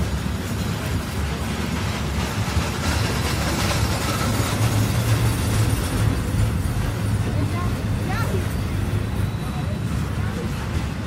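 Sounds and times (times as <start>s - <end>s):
steel train wheels rumbling on rails: 0.0s - 11.0s.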